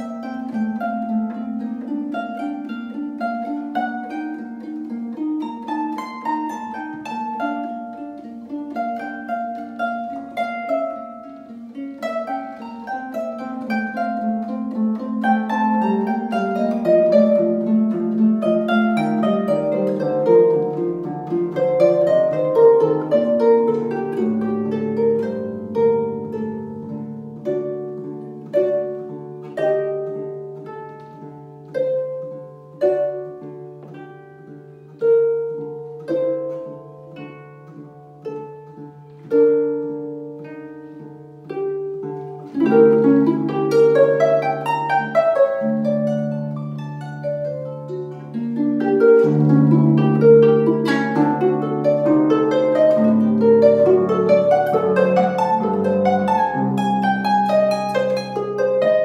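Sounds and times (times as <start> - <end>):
harp playing: 0.0 - 59.0.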